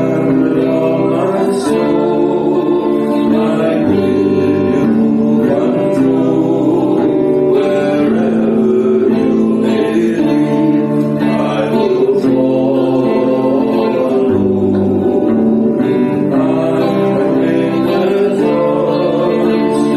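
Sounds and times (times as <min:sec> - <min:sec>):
guitar accompaniment: 0:00.0 - 0:19.9
people singing: 0:00.0 - 0:19.9.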